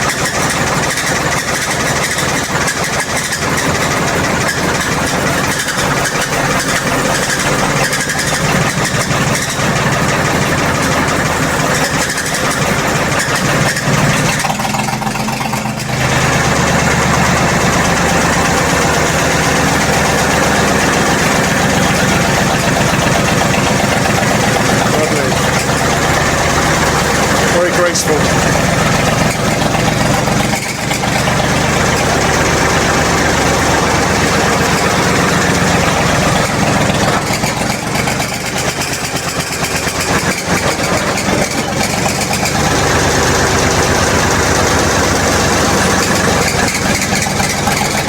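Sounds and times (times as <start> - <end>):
road roller engine running: 0.0 - 48.0.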